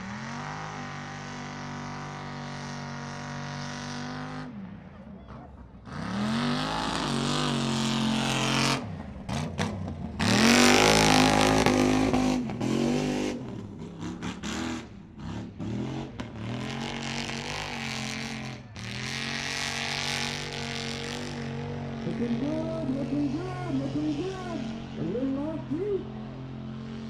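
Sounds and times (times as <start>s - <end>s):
truck engine revving hard: 0.0s - 4.7s, 5.3s - 27.0s.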